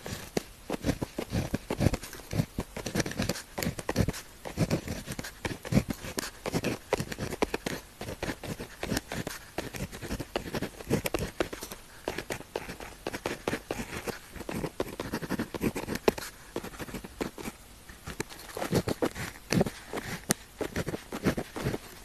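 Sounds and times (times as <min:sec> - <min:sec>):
pen scratching on paper: 0:00.0 - 0:22.0.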